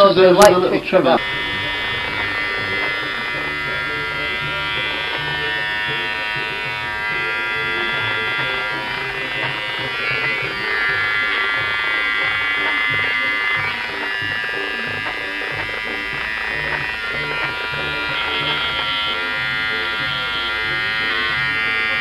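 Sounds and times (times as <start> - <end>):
electric hair trimmer buzzing: 0.0 - 22.0.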